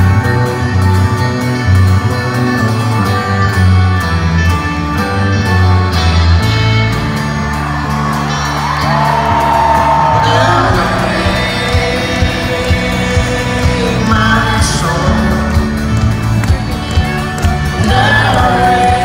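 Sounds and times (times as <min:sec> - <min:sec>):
folk-rock band playing live: 0:00.0 - 0:19.0.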